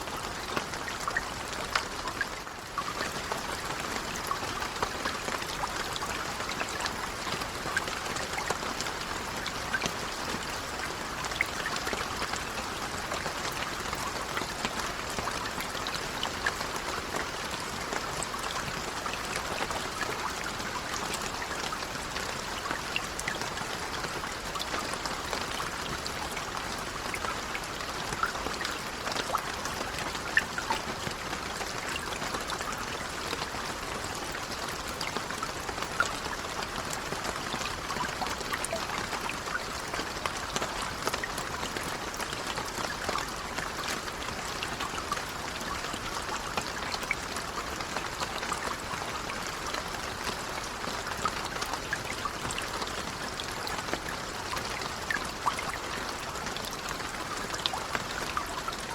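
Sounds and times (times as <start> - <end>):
gentle rain pattering: 0.0 - 58.9.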